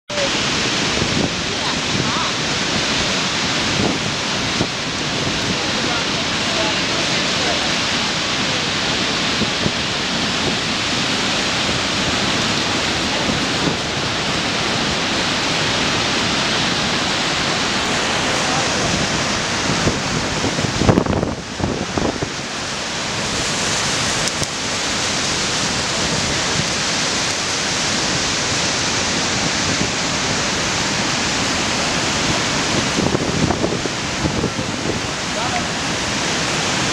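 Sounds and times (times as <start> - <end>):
waterfall rushing and crashing: 0.1 - 36.9.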